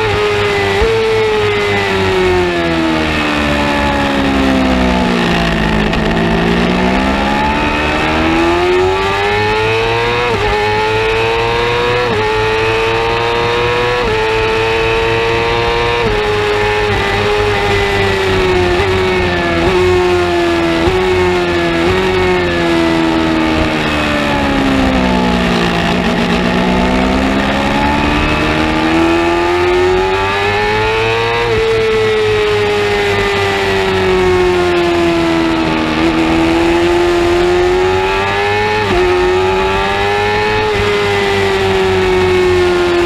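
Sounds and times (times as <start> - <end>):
racing motorcycle engine: 0.0 - 43.0.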